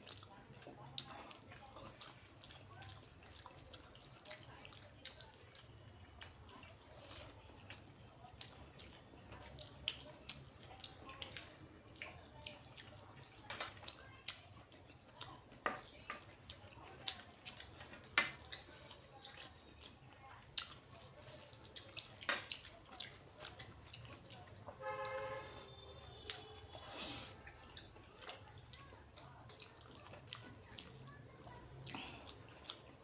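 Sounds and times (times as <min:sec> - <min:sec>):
chewing with wet smacks: 0:00.0 - 0:33.0.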